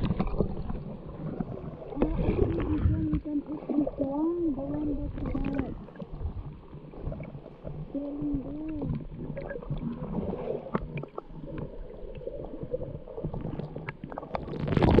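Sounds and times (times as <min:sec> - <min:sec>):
underwater clicks and crackles: 0:00.0 - 0:15.0
underwater gurgling rumble: 0:00.0 - 0:15.0.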